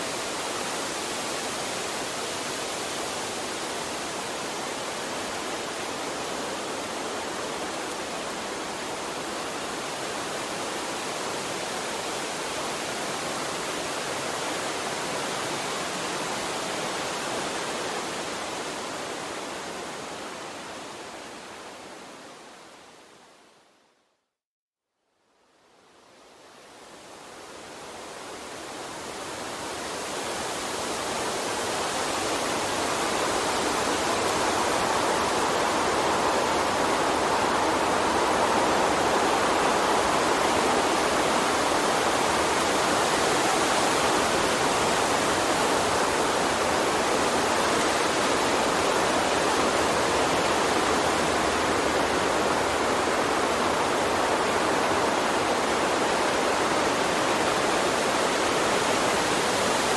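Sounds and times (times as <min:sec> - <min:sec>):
stream water rushing: 0:00.0 - 0:23.0, 0:26.4 - 0:59.9.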